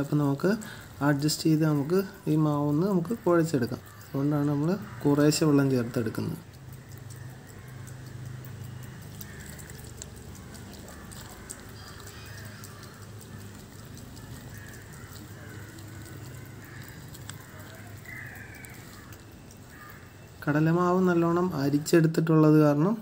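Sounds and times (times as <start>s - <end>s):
hand mixing wet batter: 0.0s - 23.0s.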